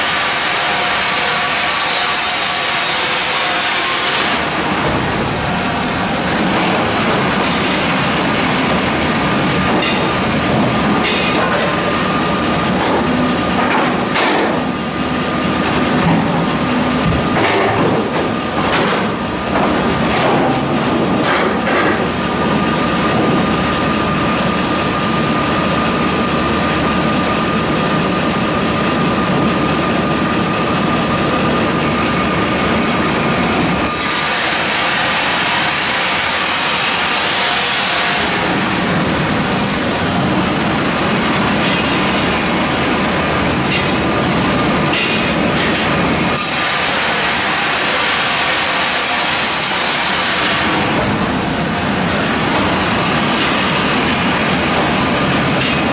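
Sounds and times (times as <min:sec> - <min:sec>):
band sawmill sawing log: 0:00.0 - 0:55.9.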